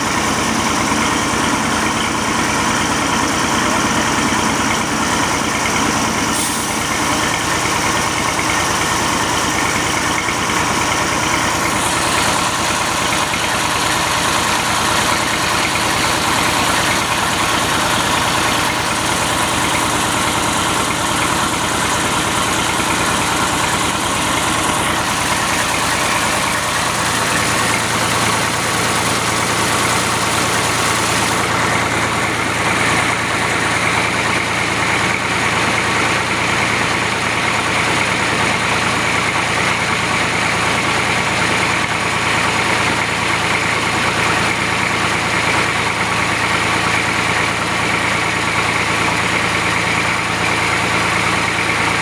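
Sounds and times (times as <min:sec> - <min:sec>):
diesel engine running under load: 0:00.0 - 0:52.0.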